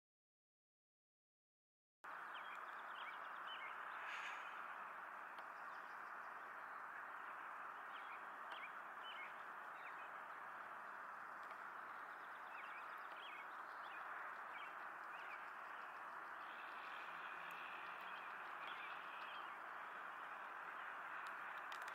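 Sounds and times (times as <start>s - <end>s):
small birds chirping: 2.0s - 21.9s
steady rushing noise: 2.1s - 21.9s.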